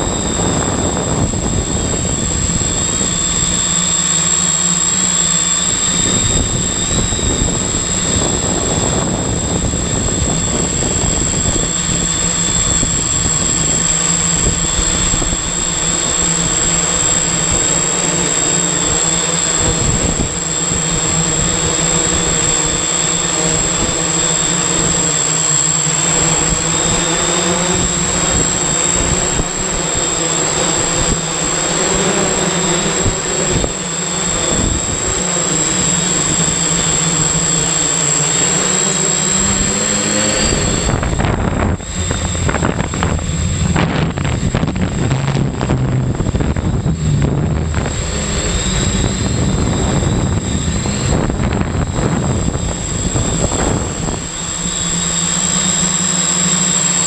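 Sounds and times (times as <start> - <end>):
drone propellers whirring: 0.0 - 57.0.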